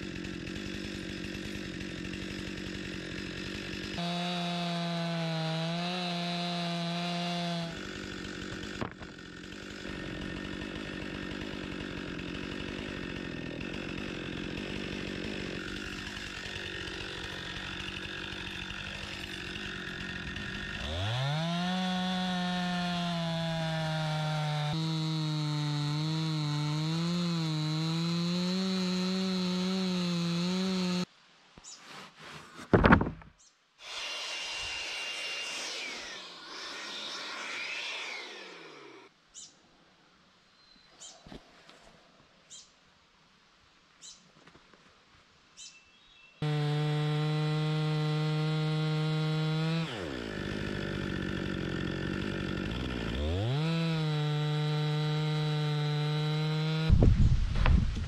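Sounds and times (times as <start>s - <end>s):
chainsaw cutting log: 0.0s - 31.1s, 31.9s - 39.1s, 46.4s - 58.0s.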